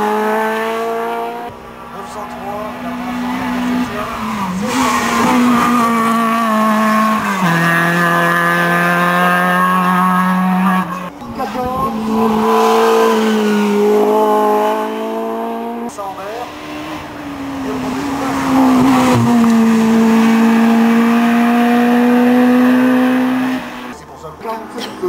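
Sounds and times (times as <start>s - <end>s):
racing car engine at full throttle: 0.0s - 25.0s.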